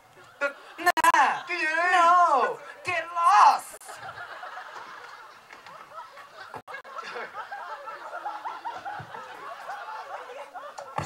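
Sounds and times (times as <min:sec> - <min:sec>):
audience chattering: 0:00.0 - 0:11.0
audience laughing: 0:00.1 - 0:02.9, 0:03.5 - 0:11.0.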